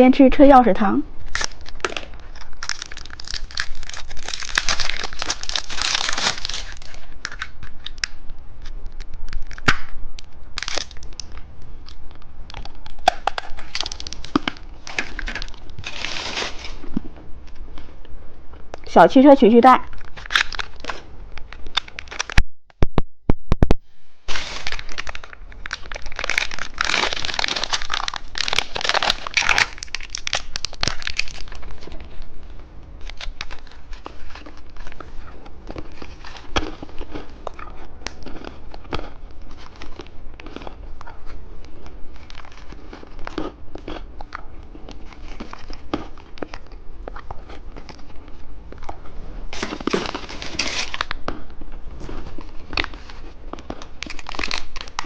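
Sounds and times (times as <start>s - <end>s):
plastic wrapper crinkling and tearing: 1.2s - 17.6s, 19.9s - 22.4s, 24.3s - 32.3s, 33.0s - 55.0s
crunching while eating candy: 1.2s - 17.7s, 19.9s - 22.4s, 24.3s - 55.0s.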